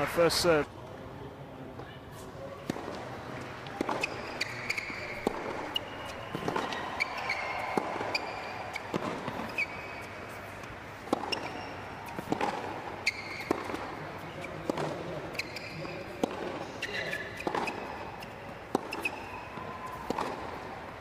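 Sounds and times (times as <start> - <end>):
shoes squeaking on court: 2.1 - 20.6
racquets striking tennis ball: 2.6 - 21.0.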